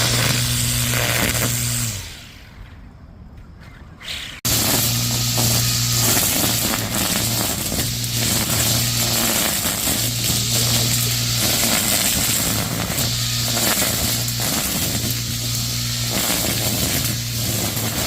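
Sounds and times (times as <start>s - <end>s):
low motor hum: 0.0s - 2.2s, 4.5s - 18.0s
loud crackling hiss: 0.0s - 2.6s, 4.1s - 18.0s.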